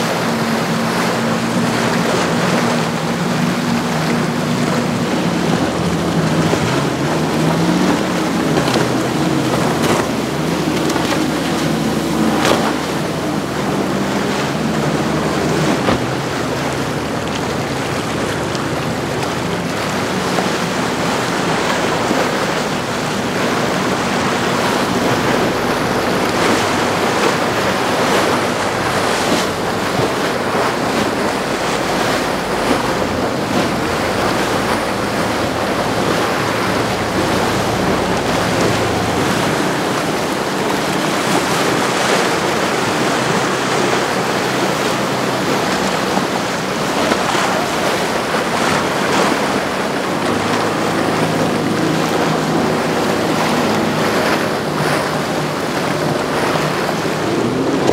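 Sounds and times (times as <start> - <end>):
boat engines droning: 0.0 - 57.9
water washing and breaking: 0.0 - 57.9
wind buffeting microphone: 0.0 - 57.9.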